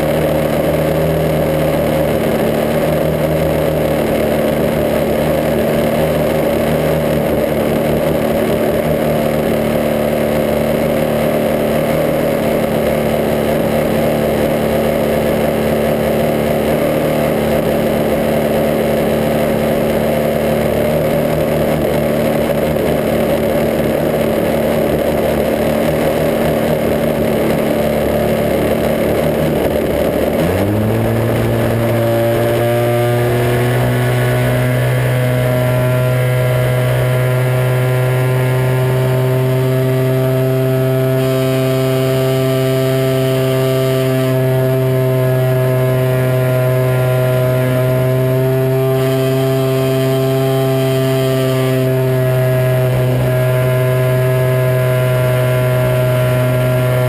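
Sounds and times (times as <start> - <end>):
model plane engine and propeller: 0.0 - 57.0.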